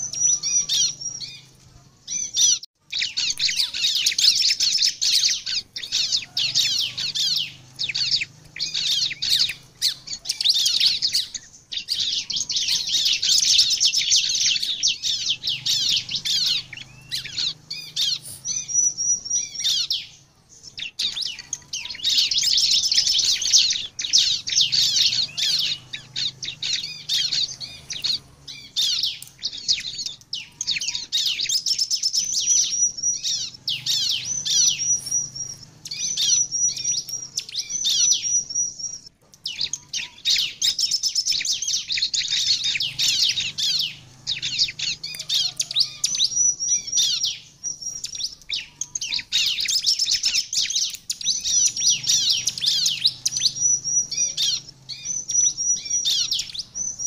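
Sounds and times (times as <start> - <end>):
bird chattering chirps: 0.0 - 57.0
repeated short high bird notes: 0.0 - 57.0.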